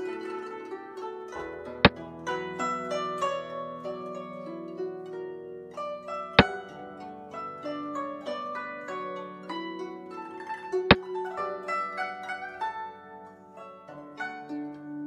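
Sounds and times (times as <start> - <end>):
plucked zither music: 0.0 - 15.0.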